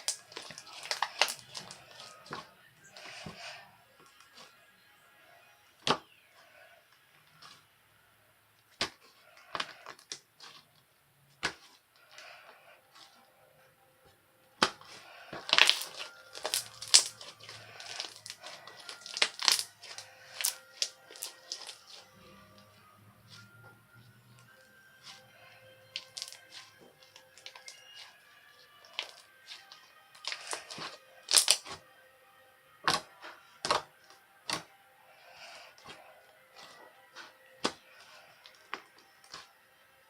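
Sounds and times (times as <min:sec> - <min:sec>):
irregular crunching and crinkling: 0:00.0 - 0:07.8, 0:08.6 - 0:13.4, 0:14.0 - 0:32.0, 0:32.8 - 0:40.0.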